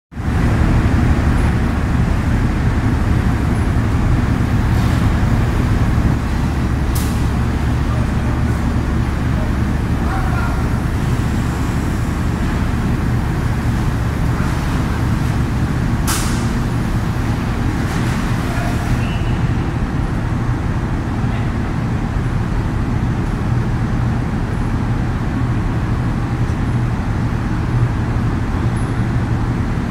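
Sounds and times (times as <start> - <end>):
diesel engine idling: 0.2 - 29.9.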